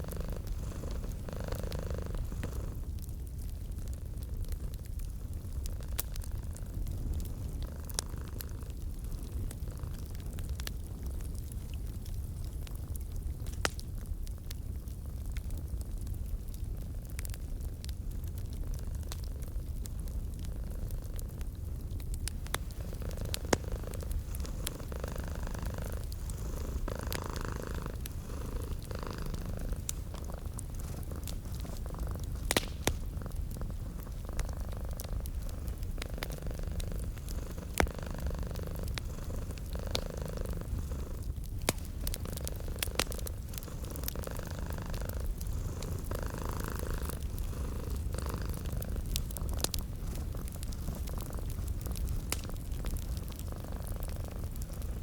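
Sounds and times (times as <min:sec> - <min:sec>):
cat purring: 0:00.0 - 0:11.8, 0:18.3 - 0:55.0
wood fire crackling: 0:00.0 - 0:55.0.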